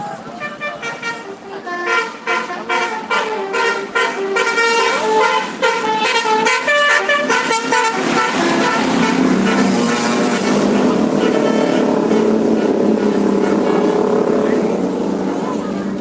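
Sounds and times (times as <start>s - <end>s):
bus musical air horn: 0.0s - 15.8s
bus passing by rushing: 0.0s - 16.0s.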